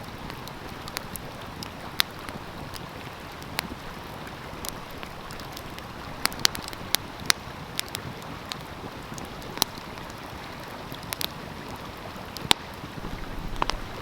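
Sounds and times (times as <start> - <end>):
stream flowing: 0.0 - 14.0
wood fire crackling and popping: 0.0 - 14.0.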